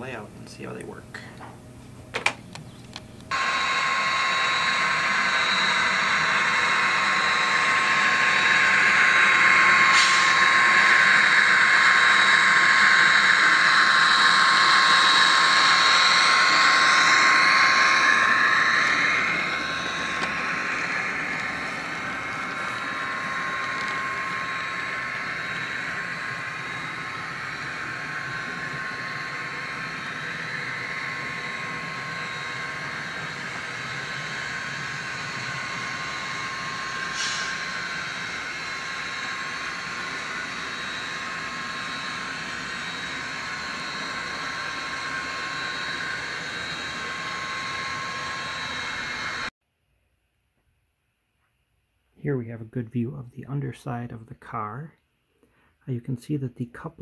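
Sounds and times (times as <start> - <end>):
model train running with whine: 2.9 - 49.5.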